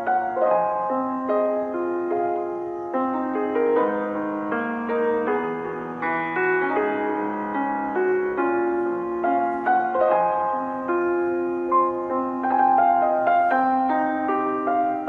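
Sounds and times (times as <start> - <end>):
soft piano melody: 0.0 - 15.0.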